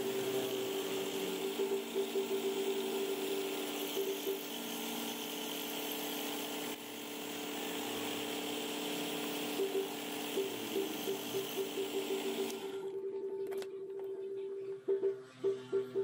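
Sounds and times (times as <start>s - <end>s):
small power tool whirring: 0.0s - 12.9s.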